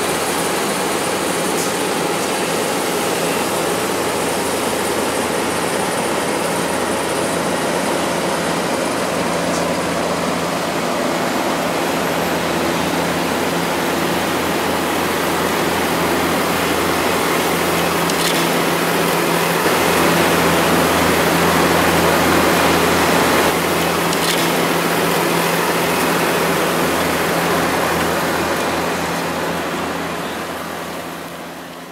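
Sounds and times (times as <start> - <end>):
diesel paving machinery running: 0.0 - 31.9.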